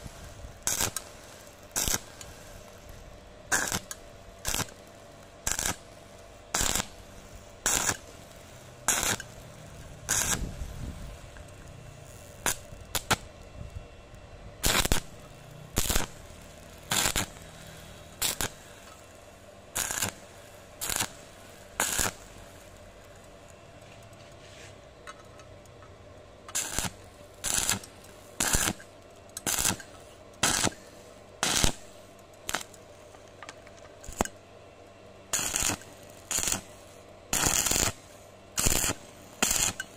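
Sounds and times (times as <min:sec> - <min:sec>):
arc welding crackling: 0:00.0 - 0:39.9.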